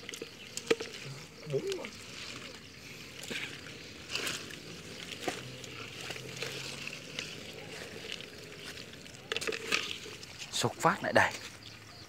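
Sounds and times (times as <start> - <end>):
night insects hissing: 0.0 - 12.0
water sloshing and splashing: 0.0 - 12.0.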